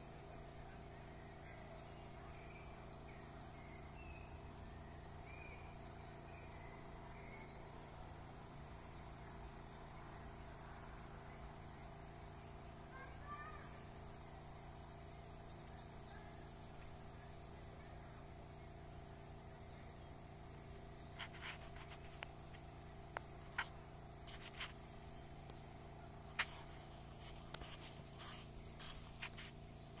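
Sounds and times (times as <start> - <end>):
low hum and hiss: 0.0 - 30.0.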